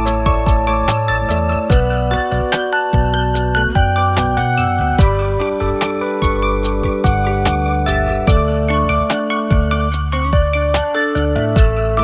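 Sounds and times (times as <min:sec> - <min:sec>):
steady beat with percussion hits: 0:00.0 - 0:12.0
sustained keyboard notes: 0:00.0 - 0:12.0.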